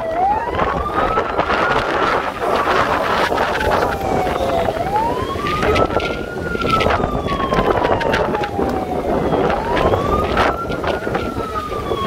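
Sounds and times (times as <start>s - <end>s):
police siren wailing: 0.0s - 12.0s
steady rushing noise: 0.0s - 12.0s.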